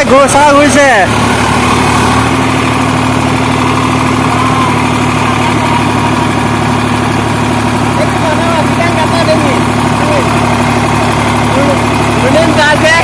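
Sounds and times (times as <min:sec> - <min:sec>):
rotavator turning: 0:00.0 - 0:13.0
tractor diesel engine running: 0:00.0 - 0:13.0.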